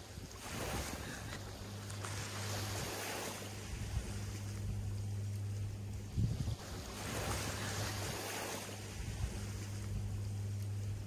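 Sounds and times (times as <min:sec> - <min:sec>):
wind on microphone: 0:00.0 - 0:05.0, 0:05.6 - 0:11.0
small waves washing on beach: 0:00.0 - 0:11.0
steady low hum: 0:00.0 - 0:11.0.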